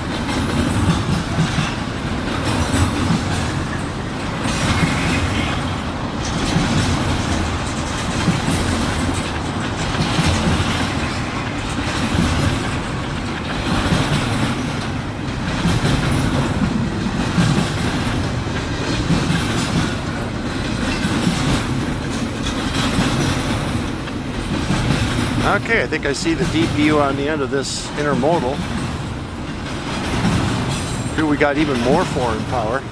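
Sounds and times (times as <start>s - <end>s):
freight train rumbling past: 0.0s - 32.9s
wheels clacking over rail joints: 0.0s - 32.9s.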